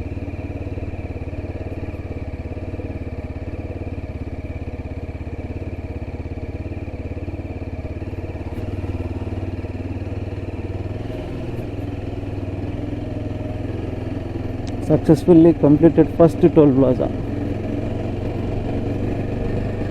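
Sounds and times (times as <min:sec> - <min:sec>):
single-cylinder engine running: 0:00.0 - 0:19.9.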